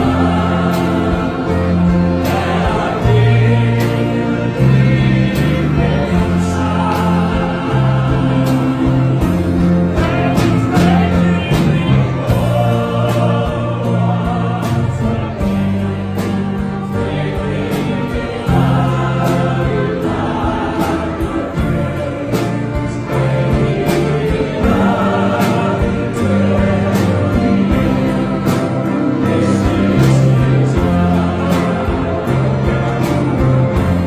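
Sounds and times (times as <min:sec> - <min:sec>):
group singing gospel song: 0:00.0 - 0:34.0
guitar: 0:00.0 - 0:34.0
steady drum beat: 0:00.0 - 0:34.0.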